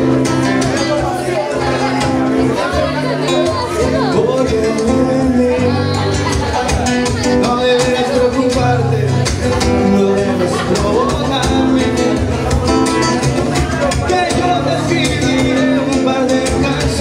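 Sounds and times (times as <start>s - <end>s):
person singing: 0.0s - 17.0s
strummed acoustic guitar: 0.0s - 17.0s.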